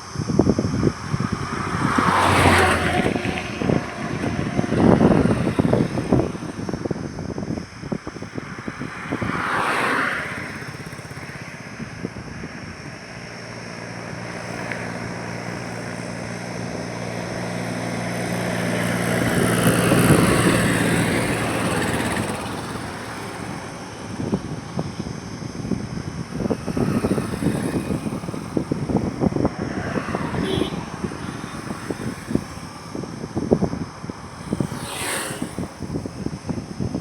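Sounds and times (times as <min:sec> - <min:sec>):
highway traffic passing: 0:00.0 - 0:37.0
vehicle engine hum: 0:00.0 - 0:37.0.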